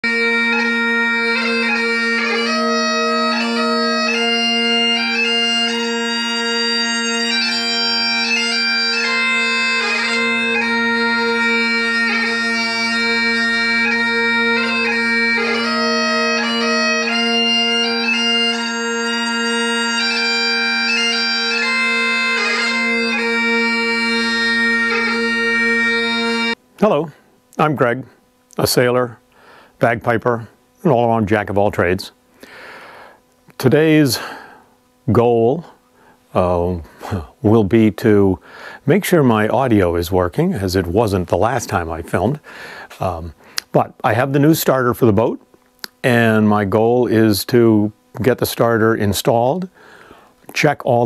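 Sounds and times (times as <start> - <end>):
bagpipe melody with drones: 0.0 - 28.1, 28.7 - 45.4.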